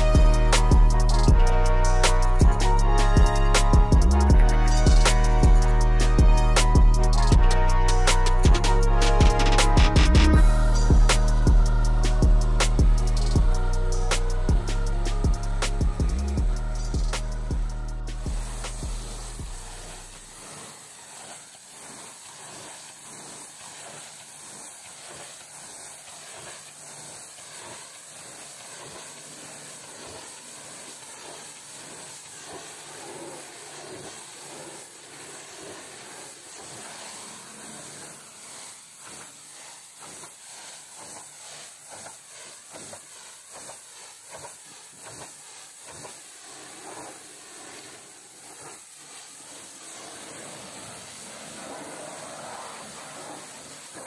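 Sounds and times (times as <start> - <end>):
pressure washer spraying metal: 0.0 - 54.0.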